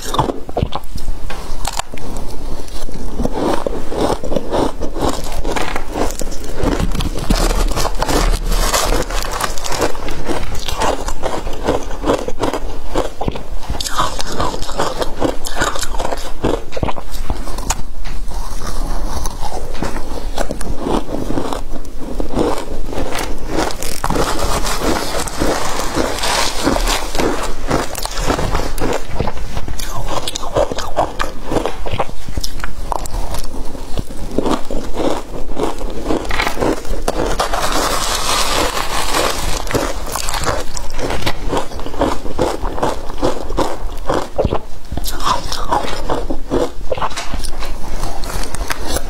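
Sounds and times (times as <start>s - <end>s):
crunching frozen ice chewed: 0.0s - 49.0s.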